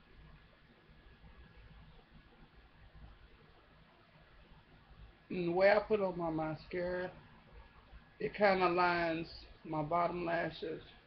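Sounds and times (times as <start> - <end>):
low hum and hiss: 0.0 - 11.0.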